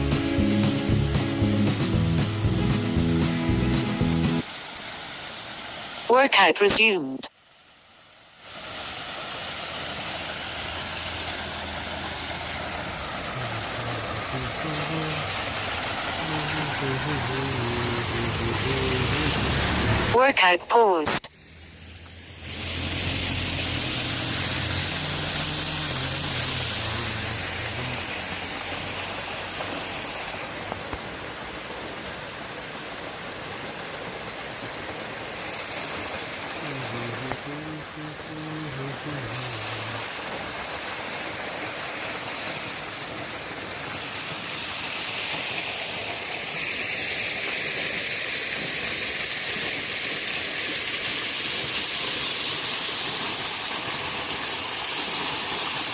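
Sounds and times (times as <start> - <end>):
waterfall pouring: 8.4 - 20.2, 21.3 - 55.9.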